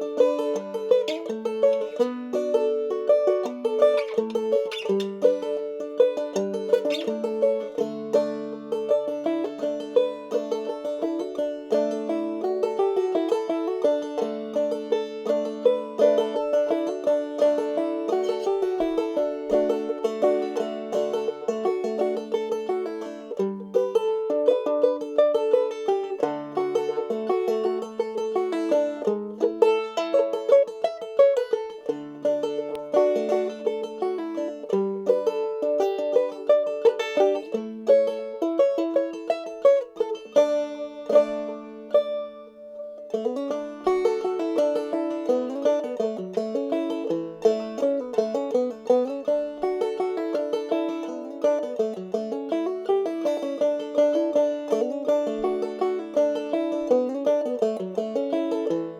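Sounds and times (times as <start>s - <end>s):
banjo playing fiddle tune: 0.0s - 58.9s.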